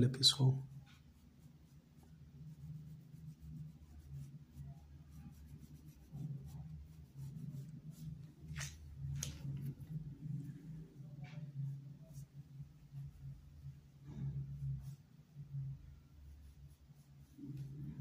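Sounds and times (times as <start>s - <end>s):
paintbrush scratching on cloth: 0.0s - 18.0s
steady low hum: 0.0s - 18.0s.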